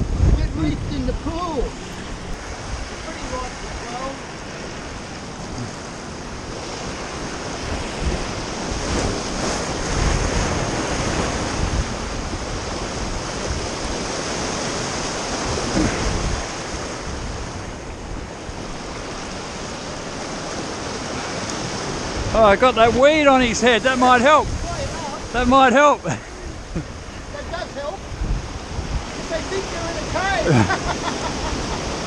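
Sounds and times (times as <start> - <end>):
surf breaking over rocks: 0.0 - 32.0
wind buffeting microphone: 0.0 - 32.0.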